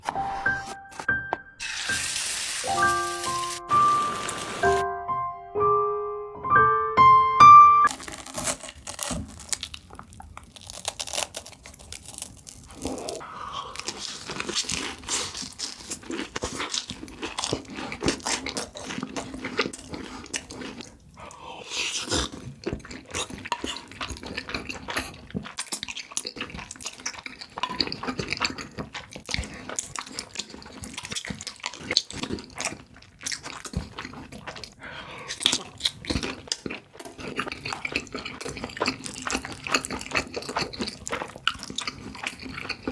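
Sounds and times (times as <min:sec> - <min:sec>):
crunchy bites and chewing: 0:07.9 - 0:42.9.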